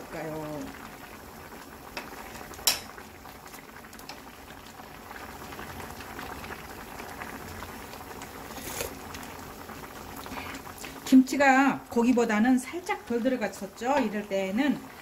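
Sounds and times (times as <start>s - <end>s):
stew bubbling and popping: 0.0s - 15.0s.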